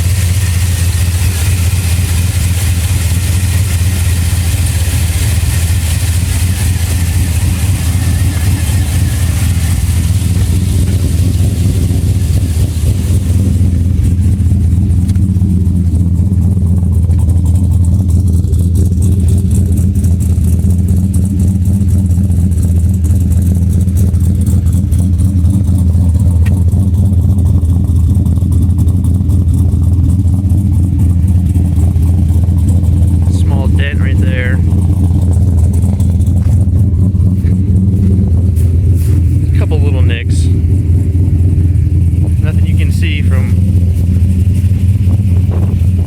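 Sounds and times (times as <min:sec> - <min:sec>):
pickup truck engine running: 0:00.0 - 0:46.0.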